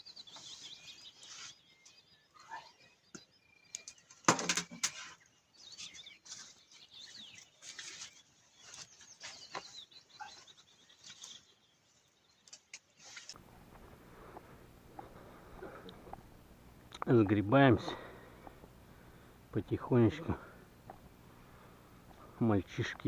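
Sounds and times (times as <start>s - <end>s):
small songbirds chirping: 0.0s - 23.0s.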